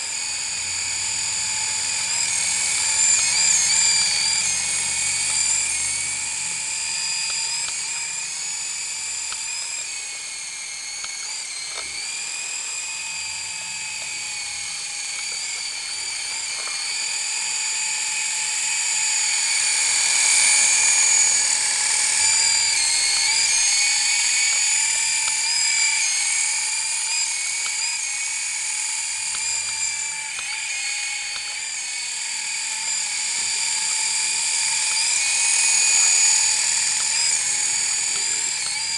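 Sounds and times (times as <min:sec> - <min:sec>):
toy helicopter rotor whine: 0:00.0 - 0:38.9.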